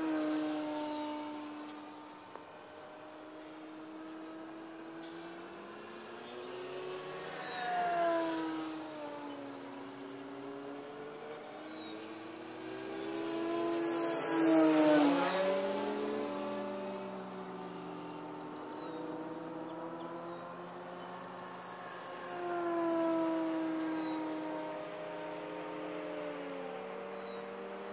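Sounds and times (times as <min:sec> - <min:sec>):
electric model plane motor whine: 0:00.0 - 0:27.9.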